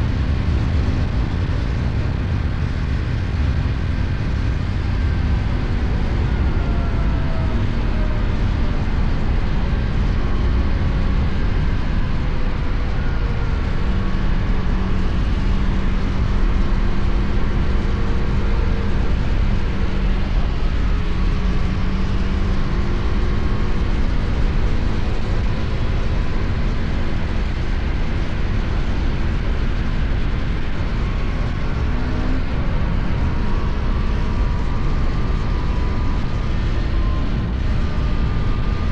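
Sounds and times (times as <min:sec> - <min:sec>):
road noise: 0:00.0 - 0:38.9
wind rumble on microphone: 0:00.0 - 0:38.9.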